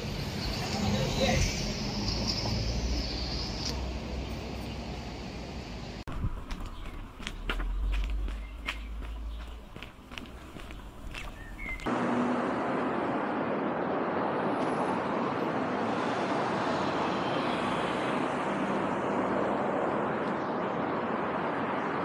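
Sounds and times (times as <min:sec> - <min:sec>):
cars passing on street: 0:00.0 - 0:22.0.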